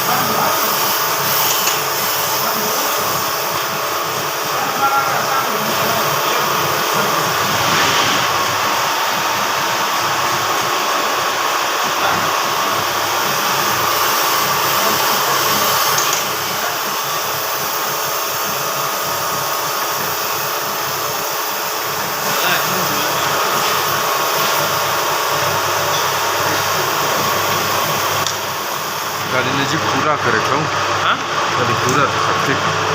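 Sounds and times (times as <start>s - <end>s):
grinding machine whooshing hiss: 0.0s - 32.9s.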